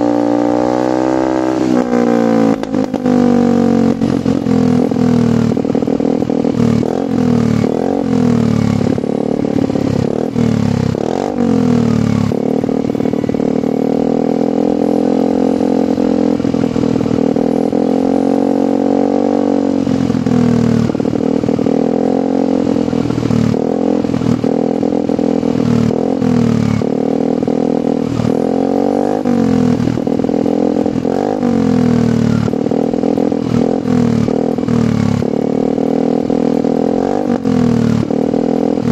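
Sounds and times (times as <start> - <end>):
scooter engine revving: 0.0 - 38.9.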